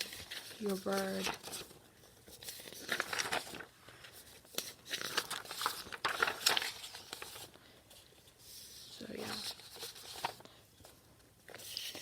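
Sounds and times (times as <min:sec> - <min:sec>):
paper prints rustling: 0:00.0 - 0:12.0.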